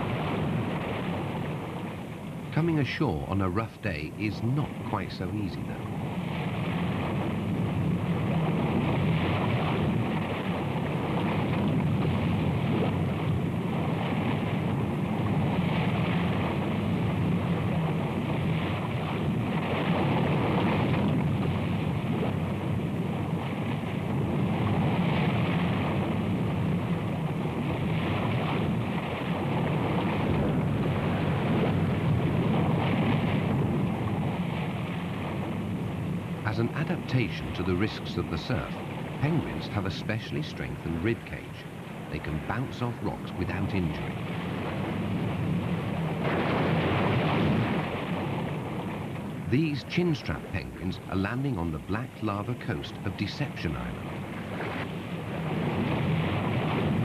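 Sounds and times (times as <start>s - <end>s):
heavy surf breaking on rocks: 0.0s - 57.0s.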